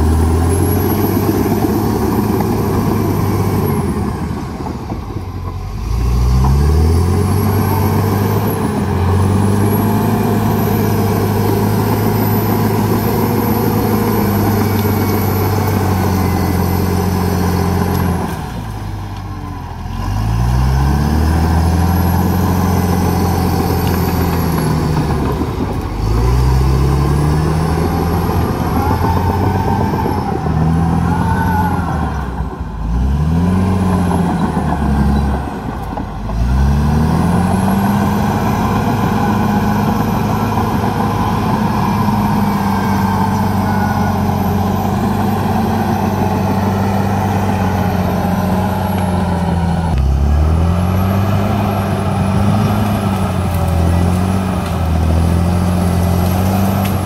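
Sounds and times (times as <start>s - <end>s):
dozer diesel engine working hard: 0.0s - 57.0s.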